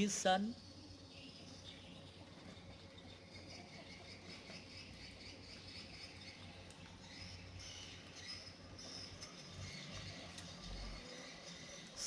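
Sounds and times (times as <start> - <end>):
faint high-pitched chirping: 0.0 - 12.0.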